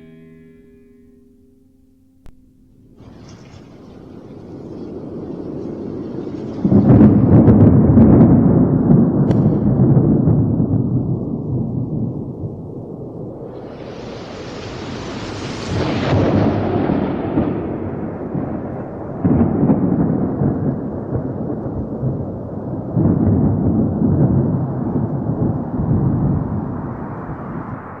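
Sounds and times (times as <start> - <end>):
rolling thunder: 2.9 - 28.0.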